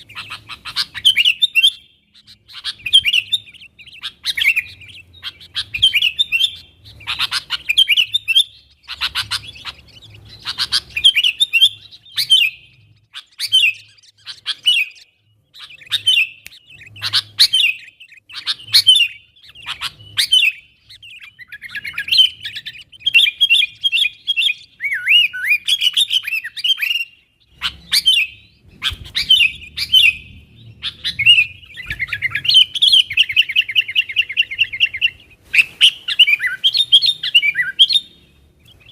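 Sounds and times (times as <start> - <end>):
bulbul chirping and singing: 0.0 - 38.9.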